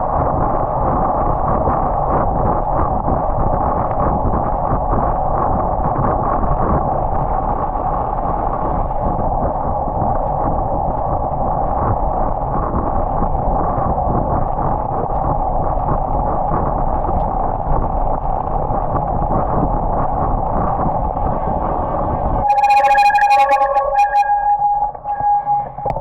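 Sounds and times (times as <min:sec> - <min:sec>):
wind on microphone: 0:00.0 - 0:22.5.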